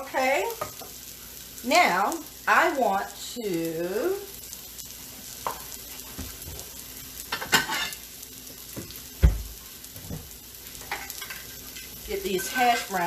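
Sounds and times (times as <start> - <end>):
hash browns sizzling on griddle: 0.0 - 13.0.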